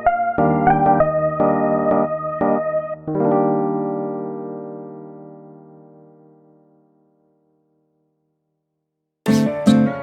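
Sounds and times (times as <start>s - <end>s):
sustained keyboard chord: 0.0s - 8.1s.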